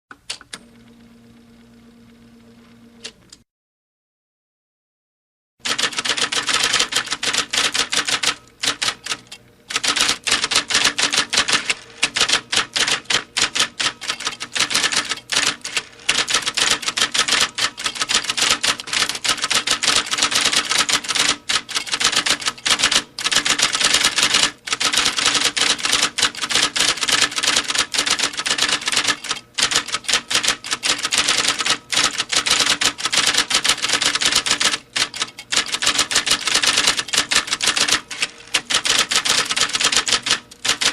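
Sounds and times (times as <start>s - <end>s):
typewriter keys clacking: 5.7s - 40.9s.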